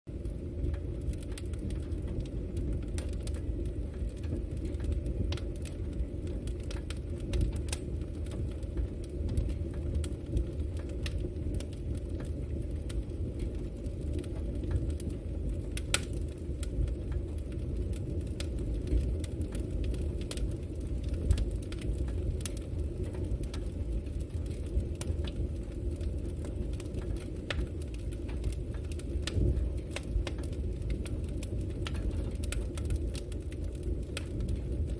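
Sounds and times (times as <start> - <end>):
burning wood crackling and popping: 0.1 - 34.9
low fire rumble: 0.1 - 34.9.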